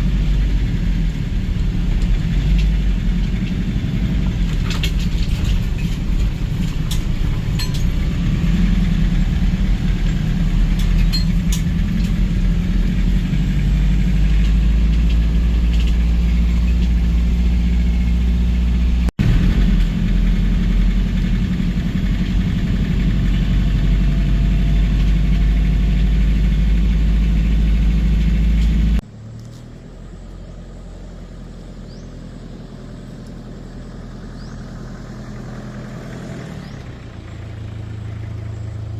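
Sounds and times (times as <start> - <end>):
van engine running: 0.0 - 38.9.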